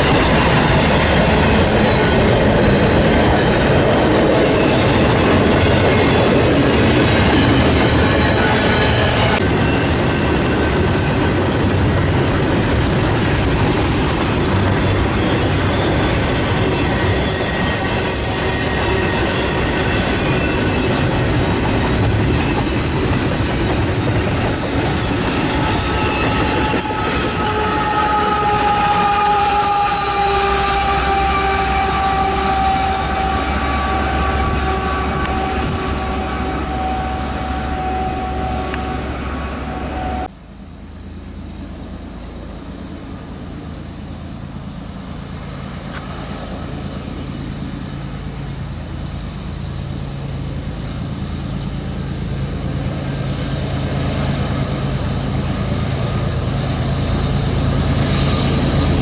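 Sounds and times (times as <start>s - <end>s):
freight train cars rumbling: 0.0s - 59.0s
train wheels squealing: 0.0s - 59.0s.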